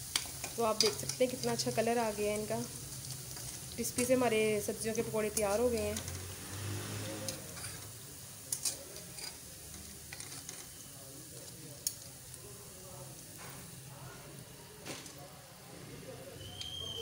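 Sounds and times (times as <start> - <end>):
frying oil sizzling: 0.0 - 17.0.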